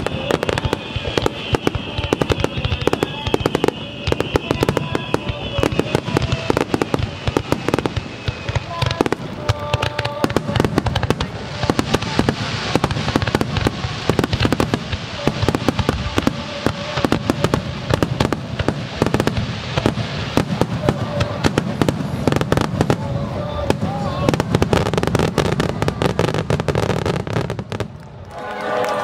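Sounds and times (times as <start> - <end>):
fireworks bangs and crackles: 0.0 - 28.3.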